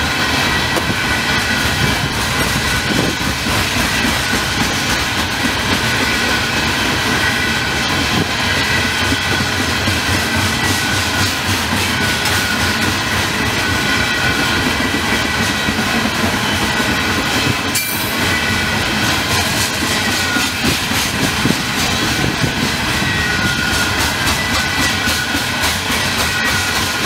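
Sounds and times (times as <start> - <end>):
train wheels clattering on rails: 0.0 - 27.0
wheel squeal on rails: 0.0 - 27.0.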